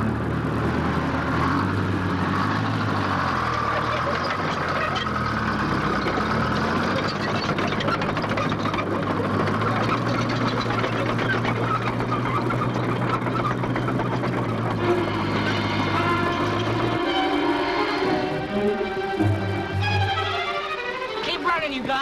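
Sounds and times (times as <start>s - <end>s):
heavy engine with clattering rattle: 0.0s - 22.0s.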